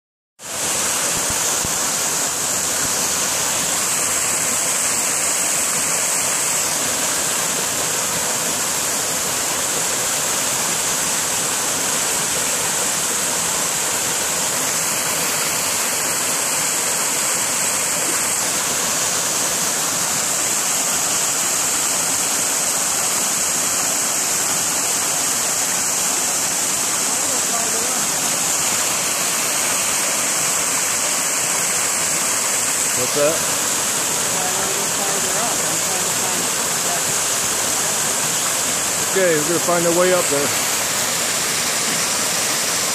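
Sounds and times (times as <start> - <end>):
creek water rushing over boulders: 0.4 - 42.9.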